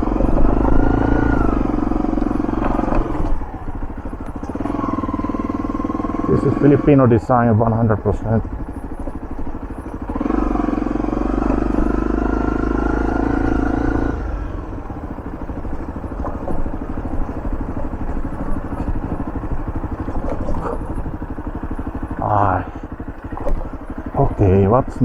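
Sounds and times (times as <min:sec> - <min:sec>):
motorcycle engine under load: 0:00.0 - 0:25.0.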